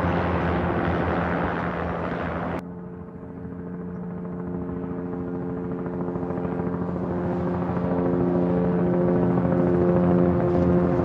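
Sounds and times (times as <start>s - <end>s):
helicopter engine and rotor chop: 0.0s - 11.0s.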